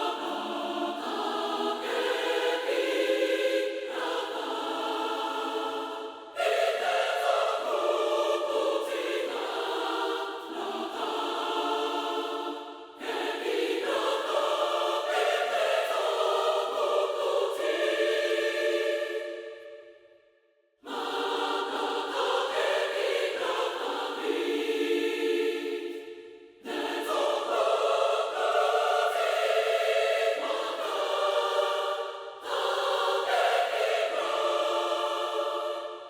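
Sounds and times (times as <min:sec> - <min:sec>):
mixed choir singing chords: 0:00.0 - 0:36.0.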